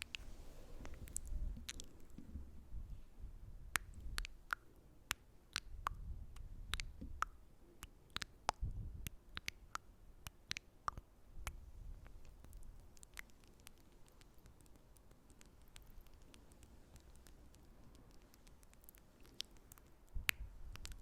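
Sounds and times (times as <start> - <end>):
wet mouth clicks and smacks: 0.0 - 2.2, 3.8 - 21.0.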